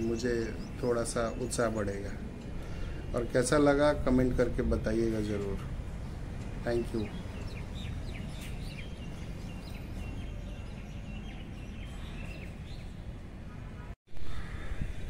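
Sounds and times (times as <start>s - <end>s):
low outdoor rumble: 0.0s - 12.2s
birds chirping: 0.0s - 14.8s.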